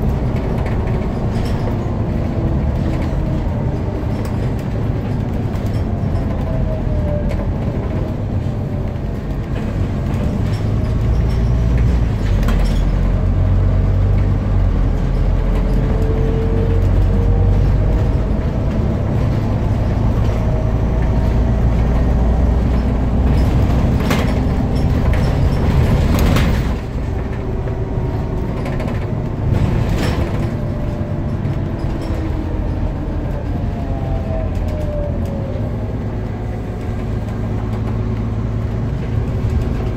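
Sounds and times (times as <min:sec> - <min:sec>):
bus body clatters: 0:00.0 - 0:33.8, 0:36.1 - 0:39.9
bus engine rumble: 0:00.0 - 0:39.9.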